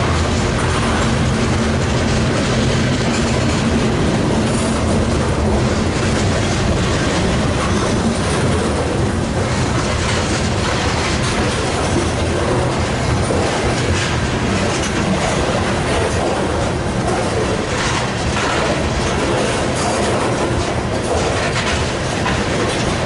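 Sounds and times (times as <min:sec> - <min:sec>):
freight train wheels clattering: 0:00.0 - 0:23.0.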